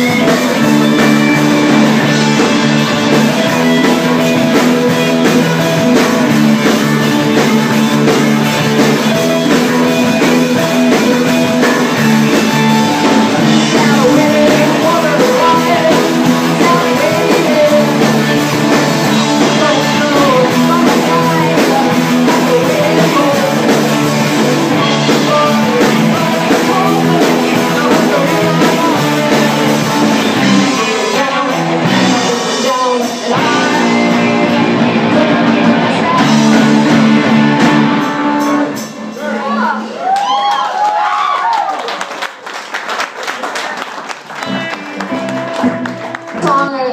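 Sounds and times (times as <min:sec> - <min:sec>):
live rock band playing: 0:00.0 - 0:40.2, 0:43.6 - 0:46.9.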